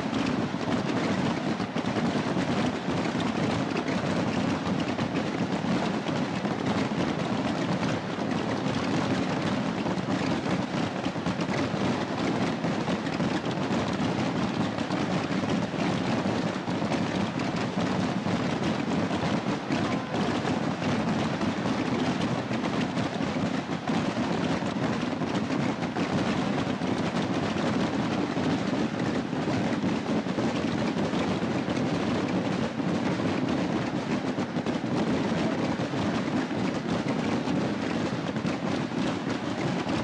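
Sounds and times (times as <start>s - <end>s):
rockets crackling and banging: 0.1s - 40.0s.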